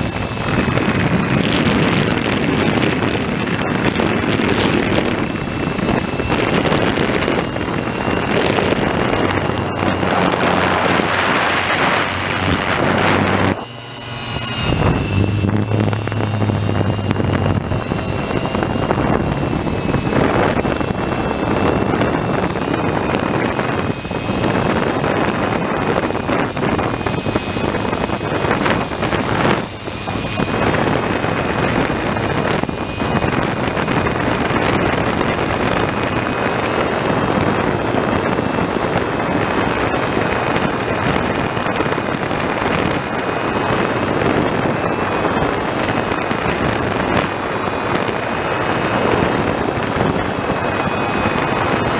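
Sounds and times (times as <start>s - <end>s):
drone motors whining: 0.0s - 51.9s
rushing wind: 0.0s - 51.9s.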